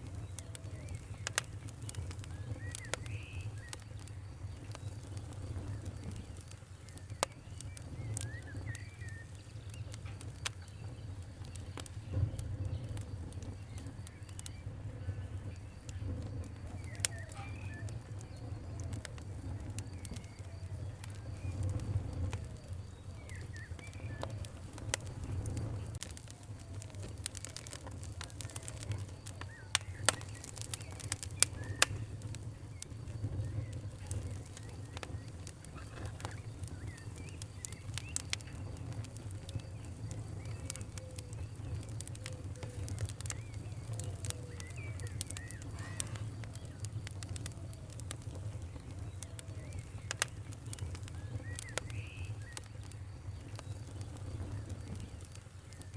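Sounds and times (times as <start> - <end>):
faint chirping calls: 0.0 - 55.9
wood fire crackling: 0.0 - 55.9.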